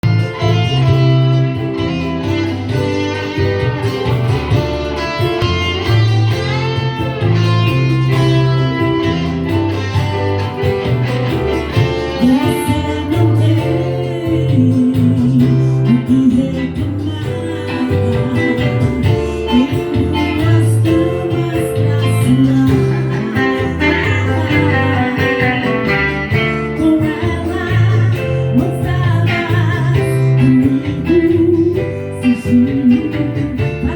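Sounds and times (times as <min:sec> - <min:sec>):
melodic guitar lead: 0:00.0 - 0:33.9
repeating bass line: 0:00.0 - 0:33.9.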